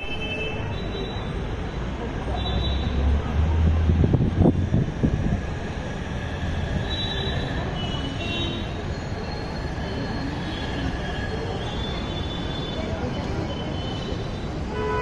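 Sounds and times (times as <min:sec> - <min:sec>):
city background noise: 0:00.0 - 0:15.0.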